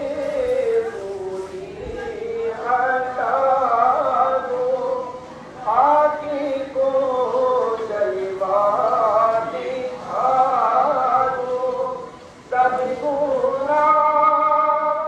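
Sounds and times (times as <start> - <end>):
man singing slow devotional song: 0.0 - 15.0.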